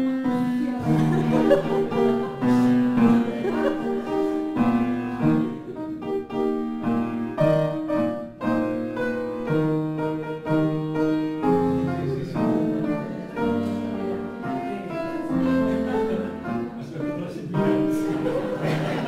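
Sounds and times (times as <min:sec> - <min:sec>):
lively piano music: 0:00.0 - 0:19.0.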